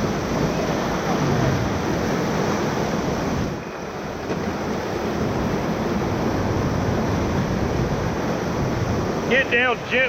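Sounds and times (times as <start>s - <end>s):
whitewater rushing: 0.0s - 10.0s
wind buffeting microphone: 0.0s - 10.0s.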